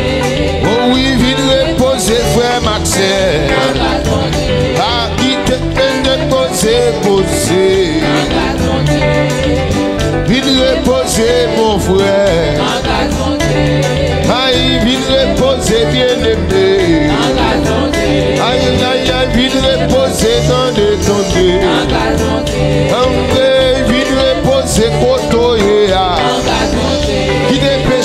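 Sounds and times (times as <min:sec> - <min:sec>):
gospel band playing: 0:00.0 - 0:28.0.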